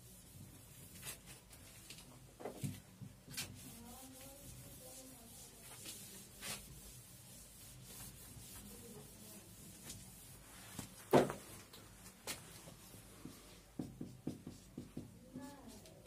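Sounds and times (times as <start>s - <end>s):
duster rubbing on whiteboard: 0.0s - 1.5s, 2.1s - 11.3s, 12.6s - 16.0s.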